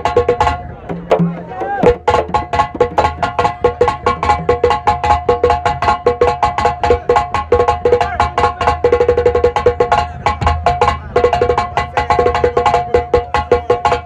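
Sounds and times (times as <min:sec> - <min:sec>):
fast drum and wood-block strokes: 0:00.0 - 0:14.0.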